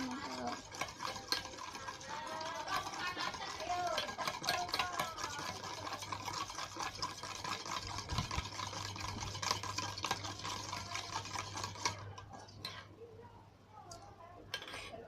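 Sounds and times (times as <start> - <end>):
spoon clicking and scraping bowl: 0.0 - 13.0, 13.9 - 15.0
spoon stirring wet mixture in bowl: 0.0 - 15.0.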